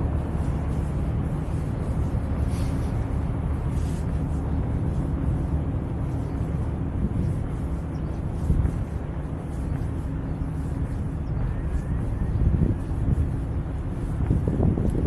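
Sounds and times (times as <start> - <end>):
faint steady hum: 0.0 - 15.0
wind buffeting microphone: 0.0 - 15.0.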